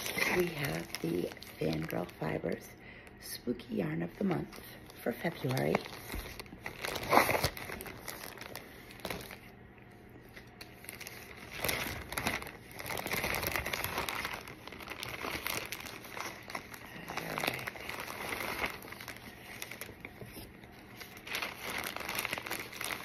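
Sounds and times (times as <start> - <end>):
tissue paper crinkling: 0.0 - 2.7, 4.0 - 9.5, 10.2 - 23.0.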